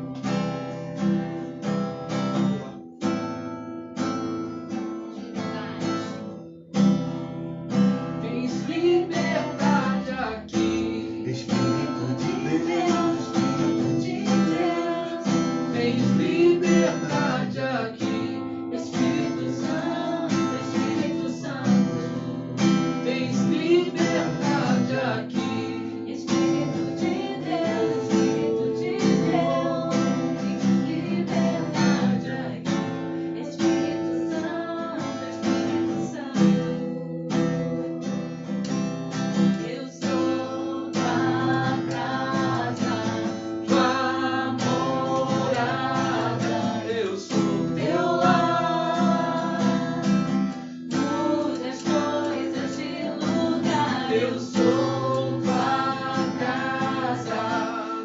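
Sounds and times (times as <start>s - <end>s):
strummed acoustic guitar: 0.0s - 58.0s
person singing: 8.2s - 37.9s, 39.5s - 58.0s.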